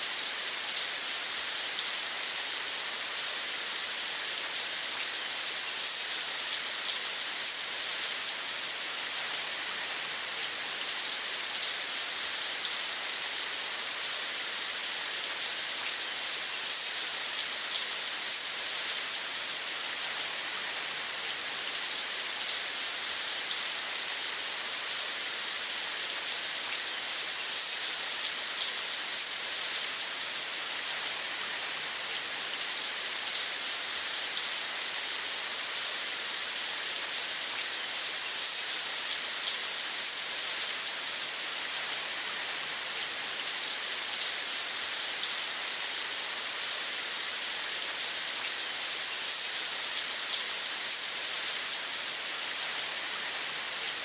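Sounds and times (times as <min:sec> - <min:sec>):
rain falling: 0:00.1 - 0:54.0.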